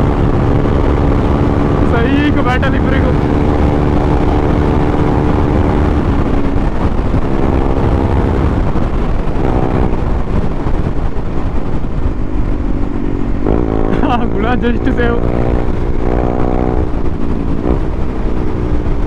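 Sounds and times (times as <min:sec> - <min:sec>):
motorcycle engine cruising: 0:00.0 - 0:19.0
wind rumble on microphone: 0:00.0 - 0:19.0.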